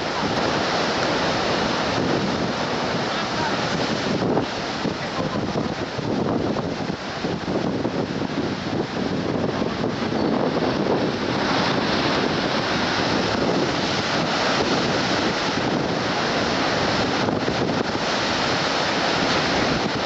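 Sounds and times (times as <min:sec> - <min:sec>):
waves breaking: 0:00.0 - 0:20.0
wind buffeting microphone: 0:00.0 - 0:20.0.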